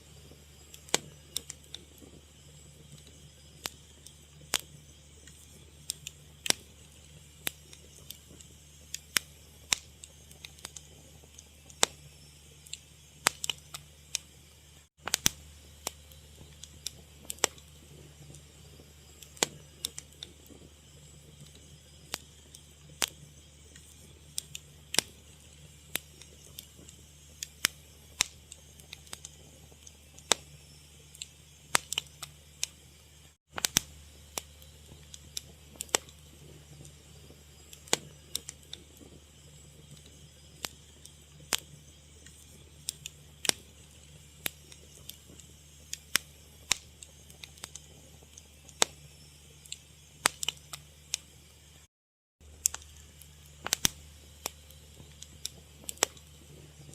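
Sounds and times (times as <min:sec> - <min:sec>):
fire crackling and popping: 0:00.0 - 0:56.9
steady low hum: 0:00.0 - 0:56.9.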